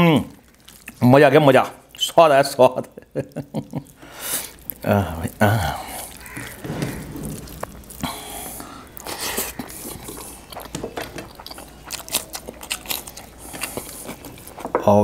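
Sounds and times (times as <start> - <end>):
hand mixing wet food: 0.0 - 15.0
eating sounds: 0.4 - 1.1, 2.8 - 15.0.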